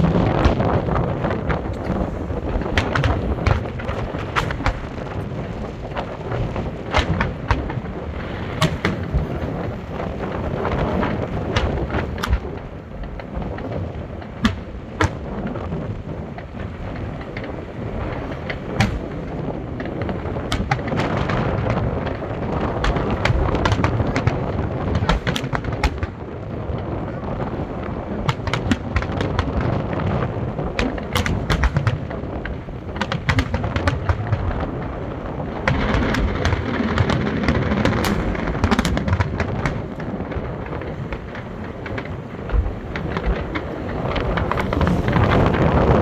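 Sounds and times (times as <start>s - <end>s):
fireworks bangs: 0.0s - 46.0s
low rumble of booms and echoes: 0.0s - 46.0s.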